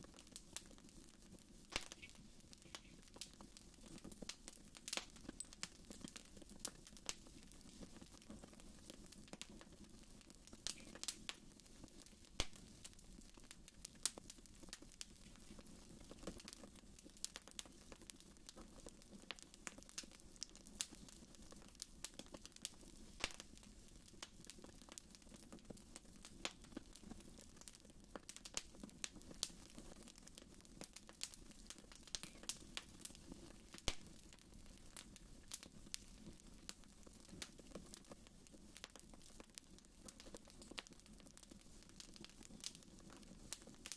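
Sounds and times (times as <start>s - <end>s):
wood fire crackling and popping: 0.0s - 43.9s
low rumble of flames: 0.1s - 43.9s.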